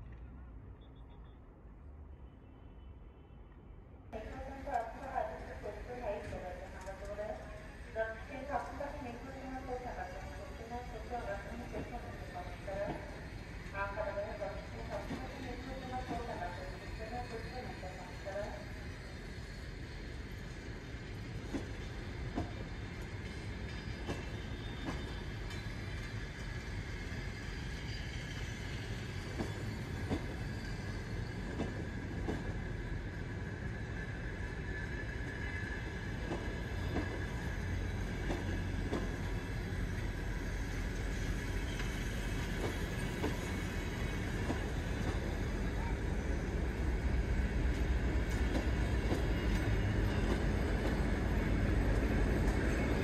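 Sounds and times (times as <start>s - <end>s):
train wheels rolling on rails: 4.2s - 53.0s.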